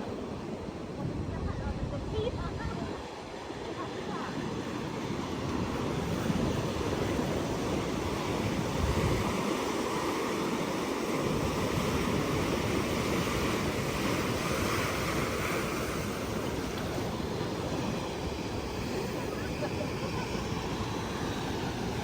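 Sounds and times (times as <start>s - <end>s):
sea waves washing onto beach: 0.0s - 22.0s
wind buffeting microphone: 0.0s - 22.0s.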